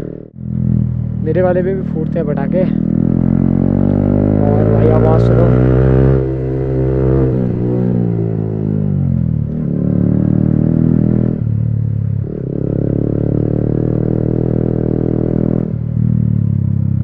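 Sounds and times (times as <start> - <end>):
loud motorcycle engine: 0.0 - 17.0.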